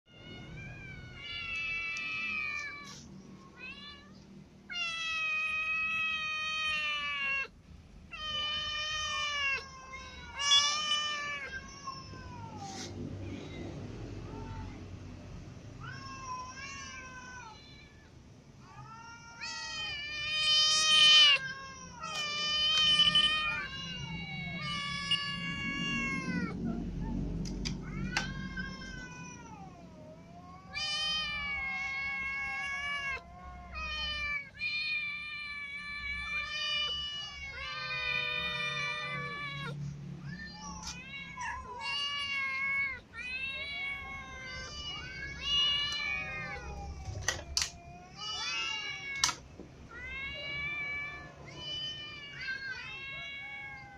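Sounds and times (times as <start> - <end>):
cats meowing: 0.1 - 53.9.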